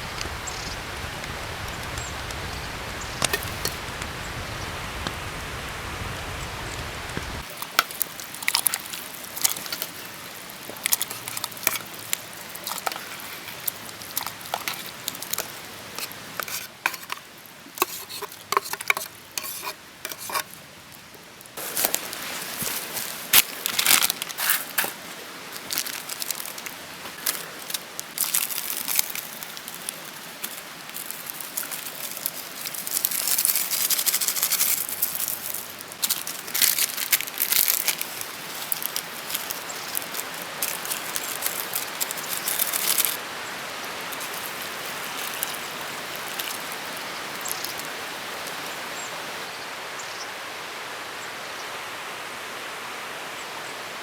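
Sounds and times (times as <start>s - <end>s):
rustling and crinkling: 0.0s - 49.5s
steady hiss: 0.0s - 54.0s.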